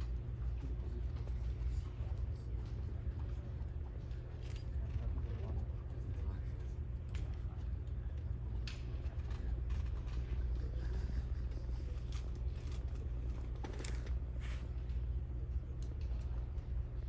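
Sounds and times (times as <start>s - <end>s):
low hum of sports hall: 0.0s - 17.0s.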